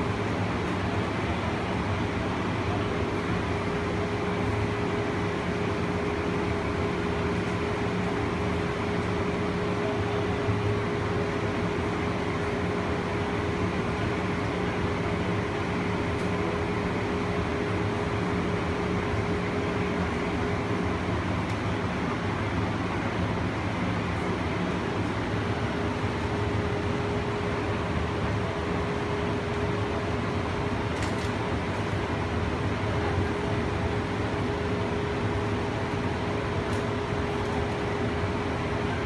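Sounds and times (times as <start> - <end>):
constant hum: 0.0 - 39.0.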